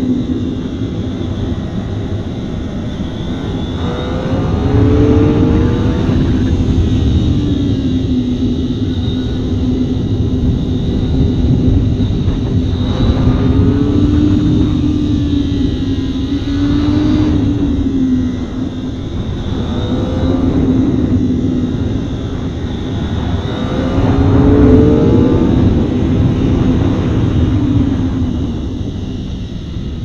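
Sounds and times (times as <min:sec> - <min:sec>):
wind and road rush: 0:00.0 - 0:30.0
motorcycle engine: 0:02.3 - 0:29.2.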